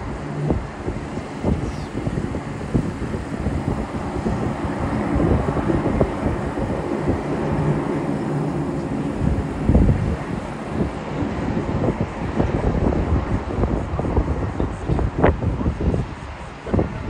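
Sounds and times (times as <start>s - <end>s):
distant jet engines rumbling: 0.0s - 15.2s
wind buffeting microphone: 0.0s - 17.0s.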